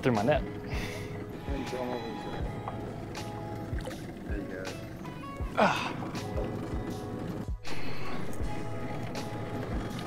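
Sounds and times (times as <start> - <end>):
background music with low beat: 0.0 - 10.0.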